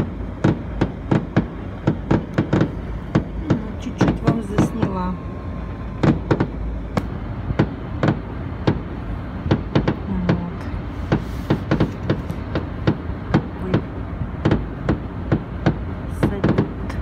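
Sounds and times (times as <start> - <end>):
fireworks bangs: 0.0 - 17.0
low steady rumble: 0.0 - 17.0.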